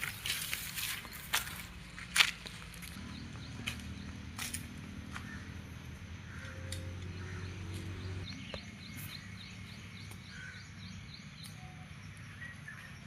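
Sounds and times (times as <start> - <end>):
birds chirping: 0.7 - 1.8, 2.8 - 13.0.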